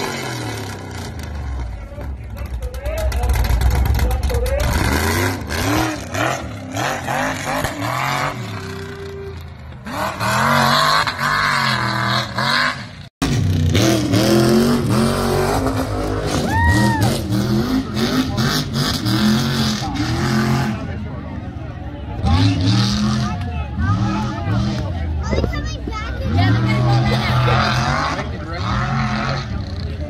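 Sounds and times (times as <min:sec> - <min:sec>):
truck engines revving hard: 0:00.0 - 0:30.0.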